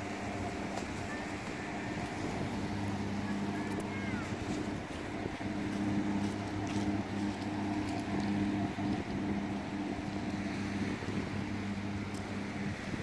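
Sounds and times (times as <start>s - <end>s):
ferry engine drone: 0.0s - 13.0s.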